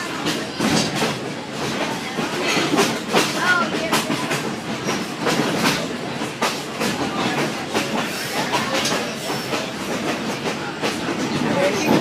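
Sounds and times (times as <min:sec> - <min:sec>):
train rumbling on track: 0:00.0 - 0:12.0
train wheels clacking over rails: 0:00.0 - 0:12.0.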